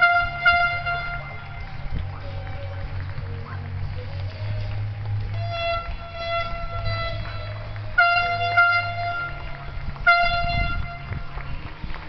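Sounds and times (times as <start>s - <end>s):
horn blasts on high note: 0.0s - 2.8s, 4.4s - 11.6s.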